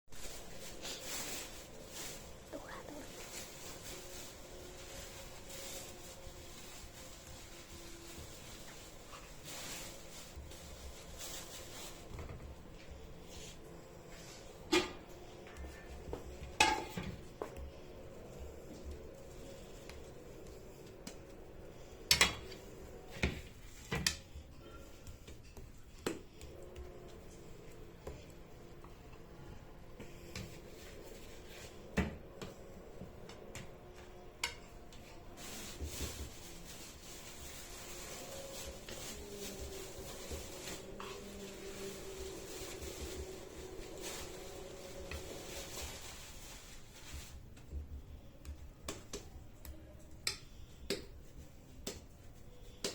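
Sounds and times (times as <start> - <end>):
kitchenware rustling: 0.1 - 48.0.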